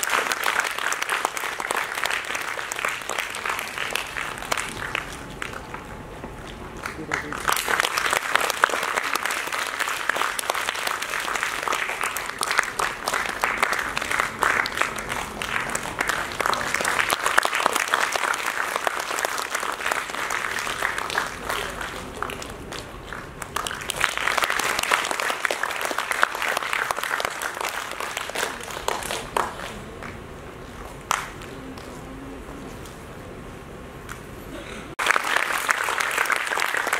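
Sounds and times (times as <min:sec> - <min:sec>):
audience applauding: 0:00.0 - 0:30.2, 0:34.9 - 0:36.9.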